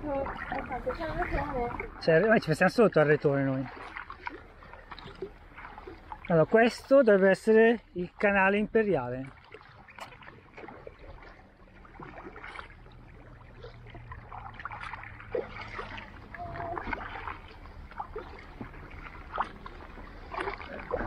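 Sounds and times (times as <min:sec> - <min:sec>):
kayak paddles splashing water: 0:00.0 - 0:21.0.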